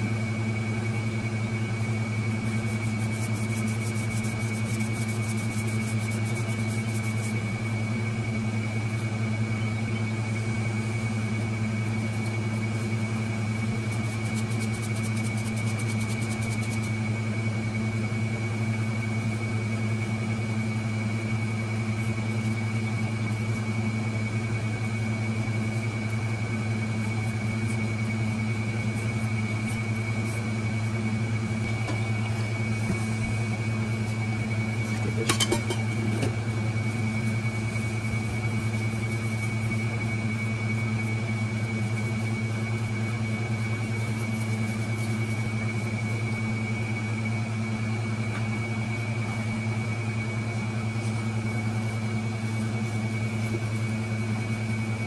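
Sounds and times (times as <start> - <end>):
machine hum: 0.0 - 55.0
thin high whine: 0.0 - 55.0.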